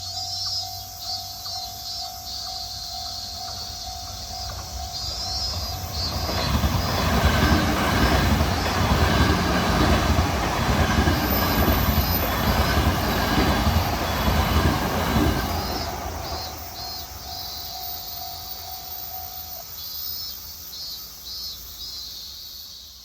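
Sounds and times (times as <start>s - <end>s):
electric train passing: 0.0s - 20.2s.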